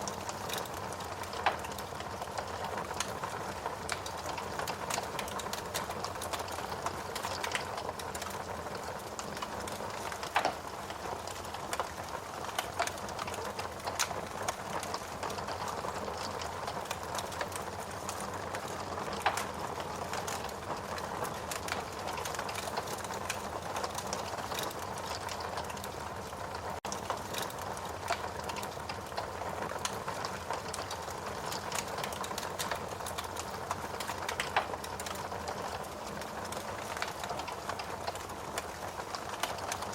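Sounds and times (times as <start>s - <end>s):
fire crackling and popping: 0.0s - 39.9s
fireplace fire hissing: 0.0s - 39.9s.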